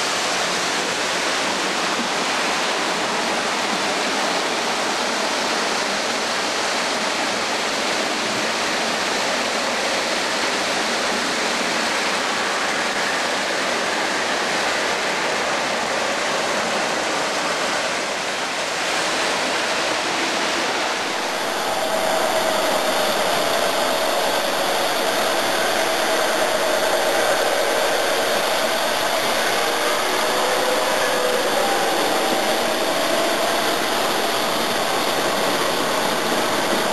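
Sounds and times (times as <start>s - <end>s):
faint steady hum: 0.0s - 36.9s
model train wheels and motor: 0.0s - 36.9s.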